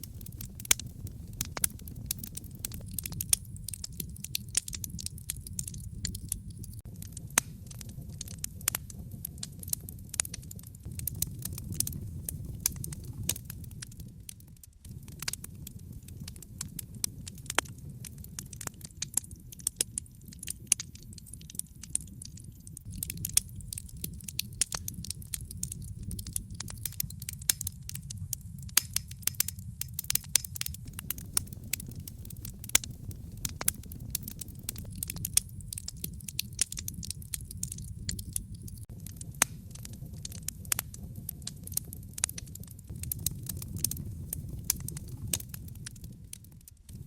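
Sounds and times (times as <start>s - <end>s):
fire crackling in a fireplace: 0.0s - 47.0s.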